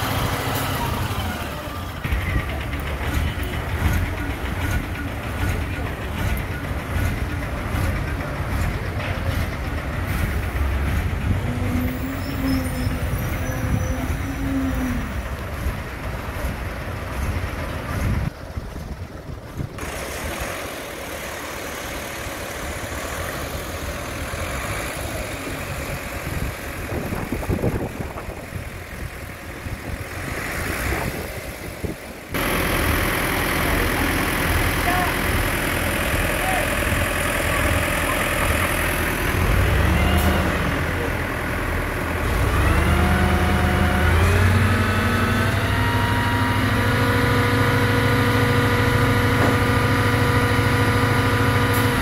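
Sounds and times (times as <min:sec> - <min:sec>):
diesel truck engines running: 0:00.0 - 0:52.0.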